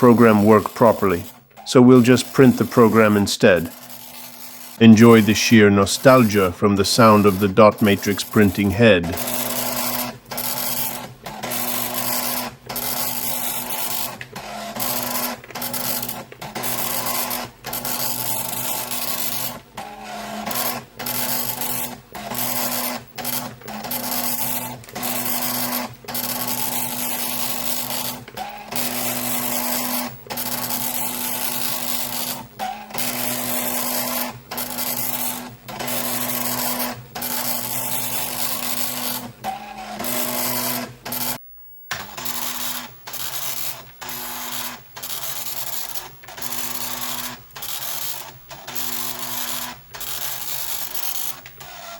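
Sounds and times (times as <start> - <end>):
dot matrix printer chattering: 0.0 - 51.9
printer paper advancing: 0.0 - 51.9.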